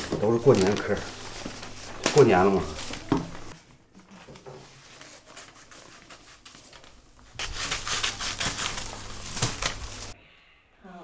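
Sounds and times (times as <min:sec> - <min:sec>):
glossy paper rustling: 0:00.0 - 0:10.2
paper crinkling: 0:00.0 - 0:10.2.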